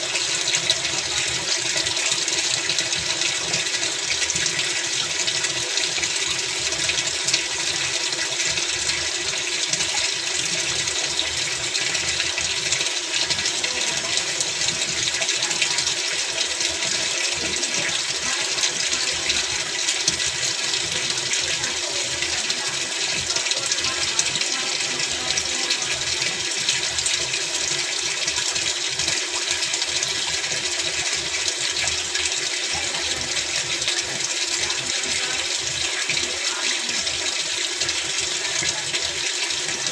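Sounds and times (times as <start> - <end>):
washing machine water rushing: 0.0 - 39.9.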